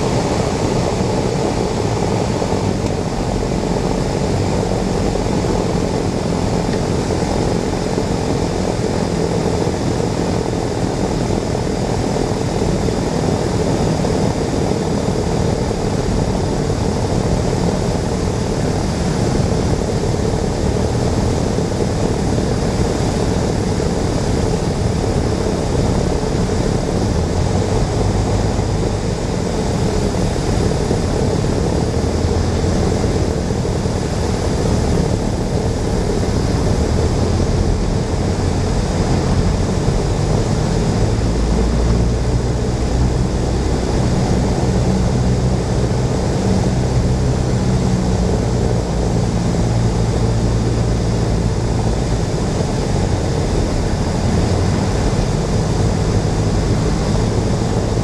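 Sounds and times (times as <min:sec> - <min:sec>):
light aircraft engine and propeller: 0:00.0 - 0:58.0
rush of airflow: 0:00.0 - 0:58.0.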